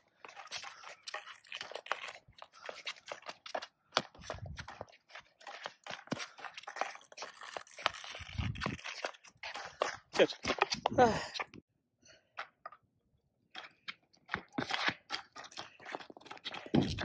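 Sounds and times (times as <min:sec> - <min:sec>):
shoes scuffing on hard court: 0:00.2 - 0:11.5, 0:13.6 - 0:17.0.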